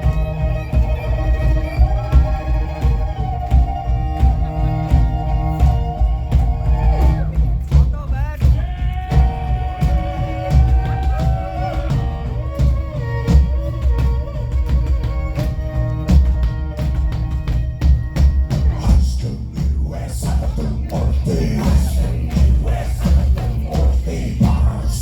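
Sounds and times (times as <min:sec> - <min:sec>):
folk metal music: 0:00.0 - 0:25.0.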